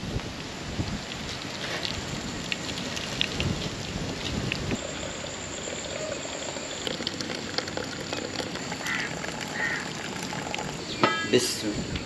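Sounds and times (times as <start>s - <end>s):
water pouring and splashing into basin: 1.1s - 10.8s.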